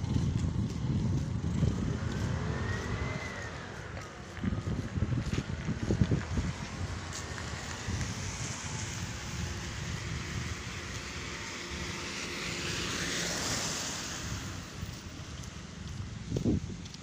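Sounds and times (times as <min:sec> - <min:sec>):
car driving past on dirt road: 0:00.0 - 0:16.6.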